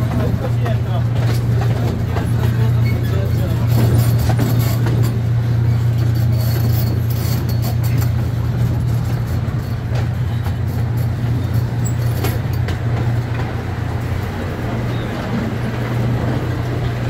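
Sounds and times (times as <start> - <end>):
low engine drone: 0.0 - 17.0
rattling of moving train cars: 0.0 - 17.0.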